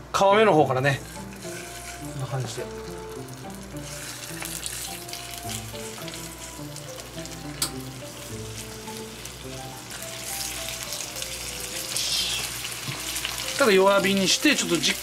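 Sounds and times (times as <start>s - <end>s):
chicken sizzling in oil: 0.6s - 15.0s.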